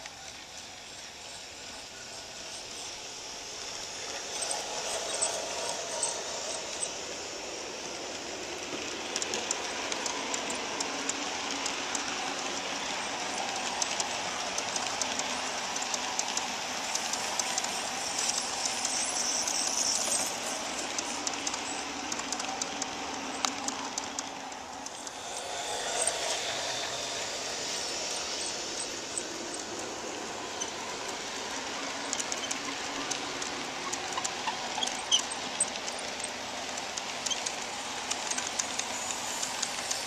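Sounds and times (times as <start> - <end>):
model train cars rolling: 0.0 - 40.0
wheels clicking over rail joints: 0.0 - 40.0.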